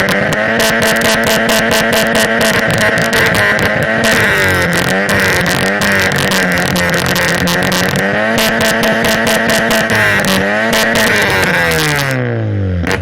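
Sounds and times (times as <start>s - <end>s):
car engine revving: 0.0s - 13.0s
exhaust crackles: 0.0s - 13.0s.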